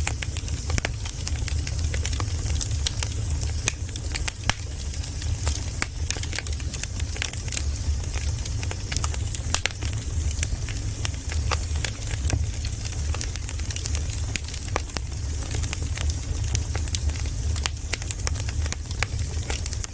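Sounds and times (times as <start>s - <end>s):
firewood crackling and popping: 0.0s - 19.9s.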